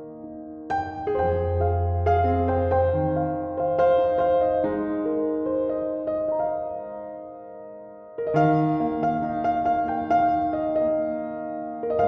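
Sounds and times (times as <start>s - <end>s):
piano notes ringing: 0.0s - 12.0s.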